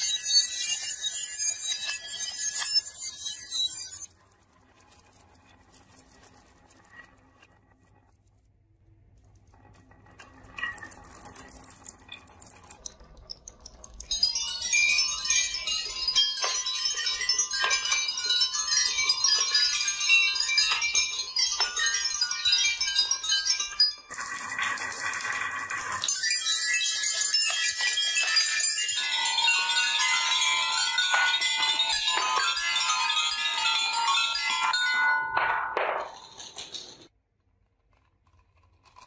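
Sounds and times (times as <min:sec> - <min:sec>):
marbles clicking down wooden track: 0:00.0 - 0:08.4, 0:09.2 - 0:37.1.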